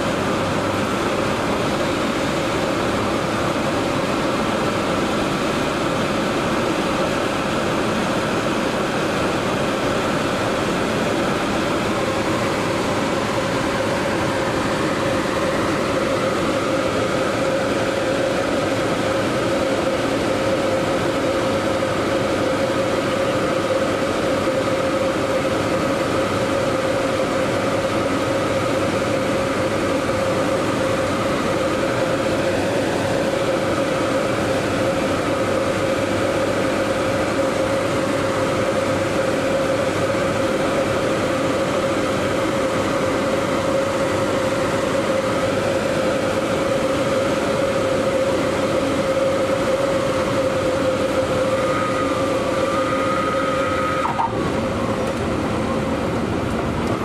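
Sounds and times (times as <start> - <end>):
aircraft engine and propeller drone: 0.0 - 57.0
airflow noise: 0.0 - 57.0.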